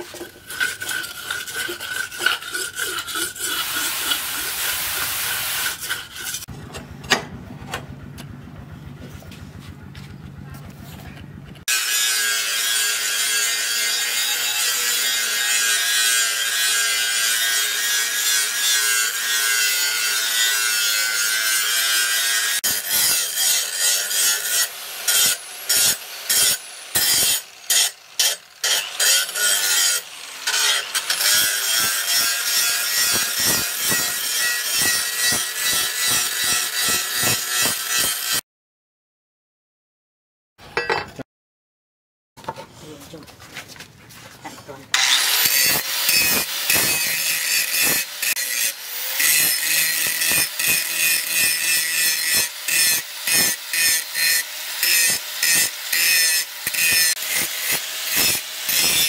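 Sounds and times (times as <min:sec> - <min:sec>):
angle grinder grinding steel: 0:00.0 - 0:06.8, 0:11.6 - 0:38.4, 0:44.9 - 0:59.0.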